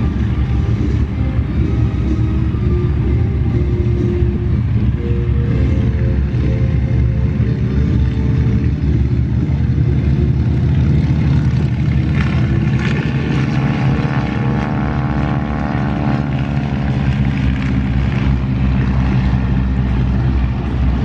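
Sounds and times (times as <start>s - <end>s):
plane engine passing by: 0.0s - 21.0s
propeller planes droning: 0.0s - 21.0s.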